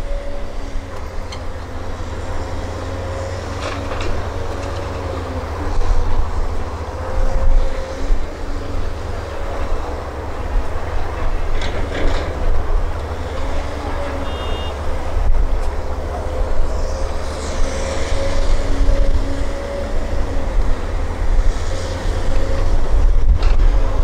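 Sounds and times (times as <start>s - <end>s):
diesel engine rumble: 0.0s - 24.0s
hydraulic whine: 0.0s - 24.0s.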